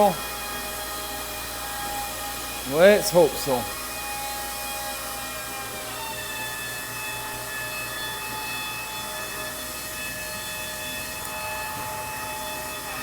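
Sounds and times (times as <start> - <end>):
car wash machinery whine: 0.0 - 13.0.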